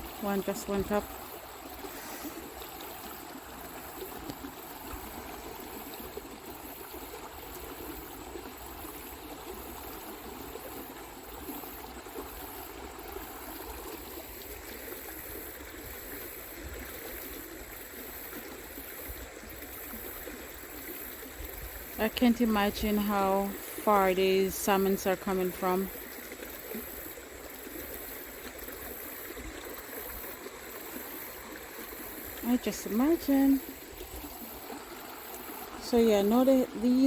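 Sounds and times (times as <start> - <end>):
stream water over rocky rapids: 0.0 - 37.0.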